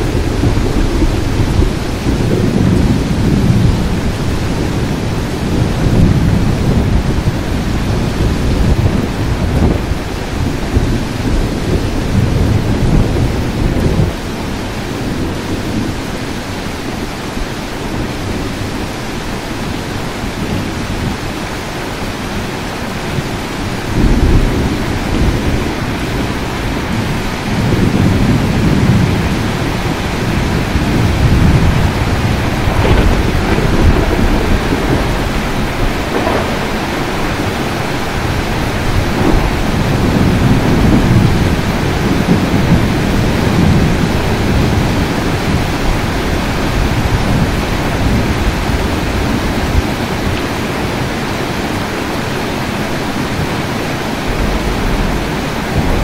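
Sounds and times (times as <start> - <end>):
rolling thunder: 0.0 - 56.0
steady rain: 0.0 - 56.0.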